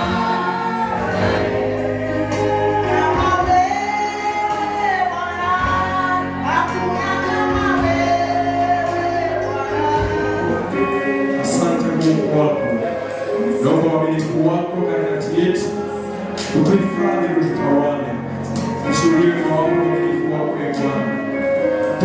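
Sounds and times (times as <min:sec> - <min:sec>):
gospel singing: 0:00.0 - 0:22.0
held chords: 0:00.0 - 0:22.0
steady bass: 0:00.0 - 0:22.0.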